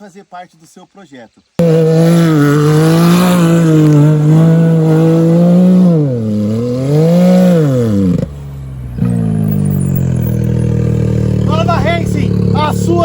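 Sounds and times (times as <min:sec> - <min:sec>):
engine revving loud: 0:01.6 - 0:13.0.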